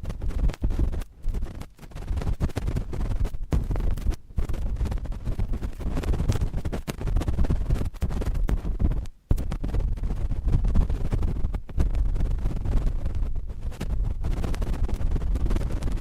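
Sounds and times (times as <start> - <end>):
cotton swab scratching microphone: 0.0 - 16.0.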